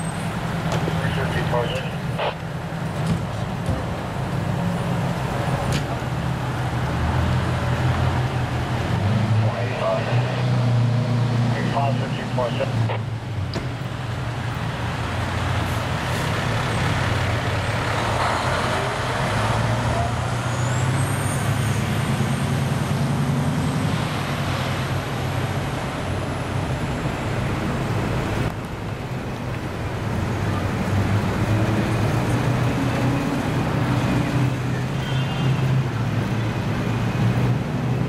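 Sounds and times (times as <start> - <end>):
diesel engine humming: 0.0 - 34.9.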